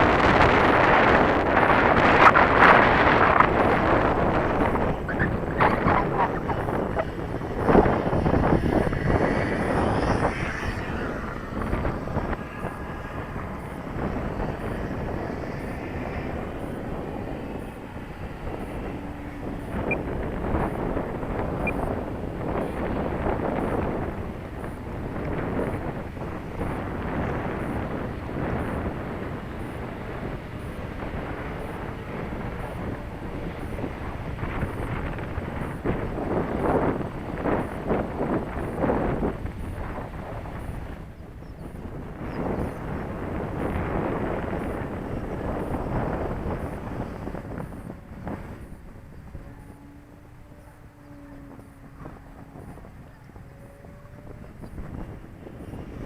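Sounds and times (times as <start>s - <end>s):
model airplane propeller drone: 0.0s - 56.0s
wind buffeting microphone: 0.0s - 56.0s.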